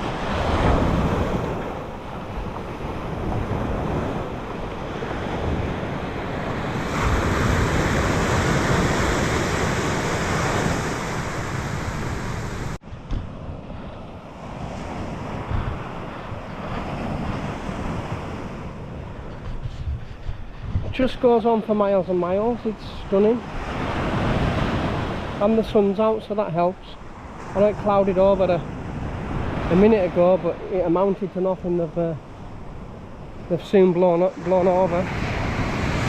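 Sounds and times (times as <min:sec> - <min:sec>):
wind buffeting the microphone: 0:00.0 - 0:26.0, 0:27.0 - 0:36.0
surf breaking on a beach: 0:00.0 - 0:36.0.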